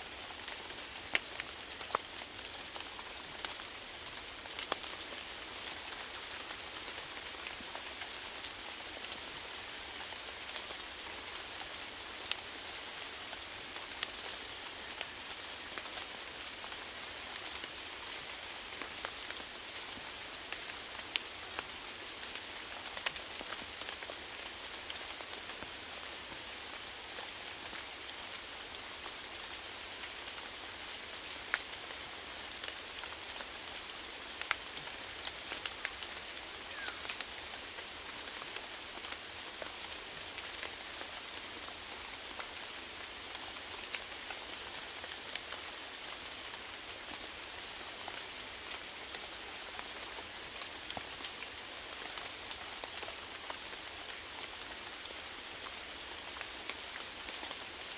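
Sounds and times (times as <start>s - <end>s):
rain hissing on a surface: 0.0s - 57.9s.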